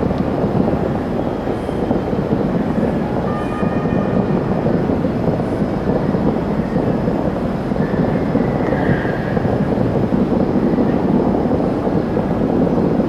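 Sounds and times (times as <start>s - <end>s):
distant fireworks rumble: 0.0s - 13.0s.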